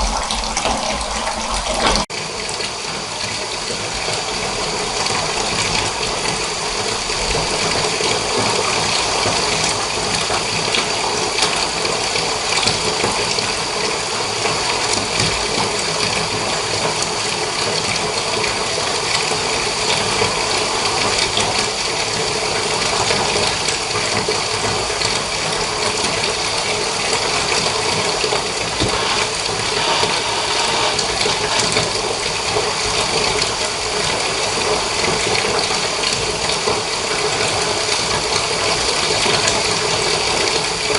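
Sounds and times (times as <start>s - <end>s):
tap water running into bathtub: 0.0s - 40.9s.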